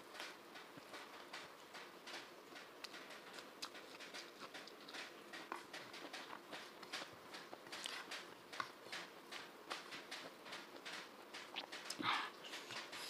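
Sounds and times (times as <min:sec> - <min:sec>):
close chewing with mouth clicks: 0:00.2 - 0:13.0.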